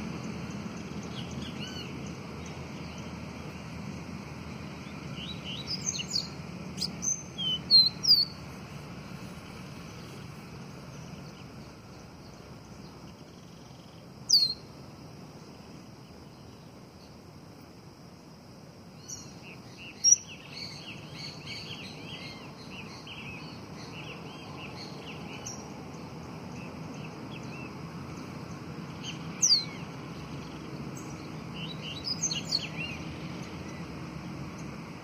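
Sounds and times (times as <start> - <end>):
bird chirping: 0.0 - 14.8, 19.0 - 34.8.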